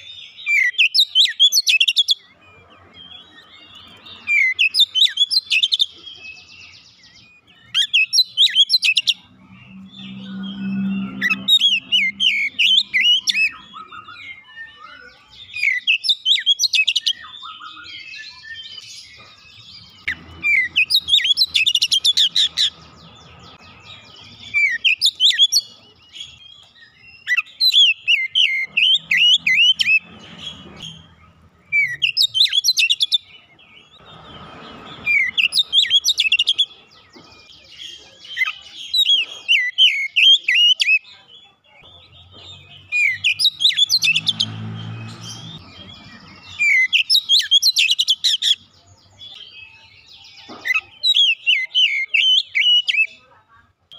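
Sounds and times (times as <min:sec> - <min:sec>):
bird singing: 0:00.0 - 0:53.4.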